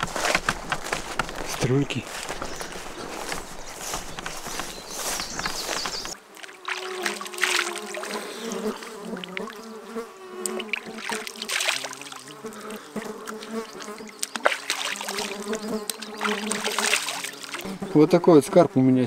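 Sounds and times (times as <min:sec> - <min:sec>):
water splashing: 0:00.0 - 0:09.7, 0:10.4 - 0:17.7
insects buzzing: 0:00.0 - 0:19.0.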